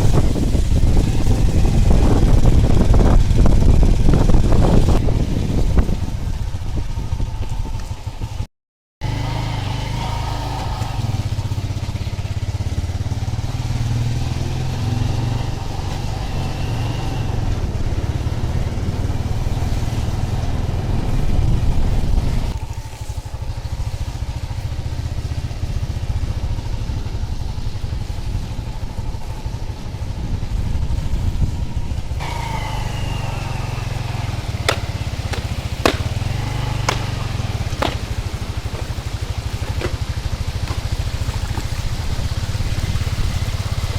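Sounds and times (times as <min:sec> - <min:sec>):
wind buffeting microphone: 0:00.0 - 0:08.5, 0:10.7 - 0:22.6, 0:23.6 - 0:43.9
vehicle rumbling in motion: 0:00.0 - 0:43.9.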